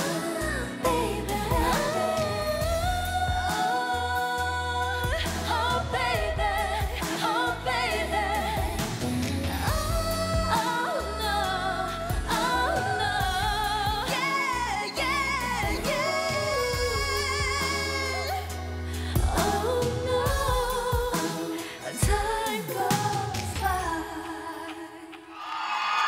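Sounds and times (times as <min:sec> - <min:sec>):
backing track with bass line: 0:00.0 - 0:21.3
women singing pop song: 0:00.0 - 0:26.0.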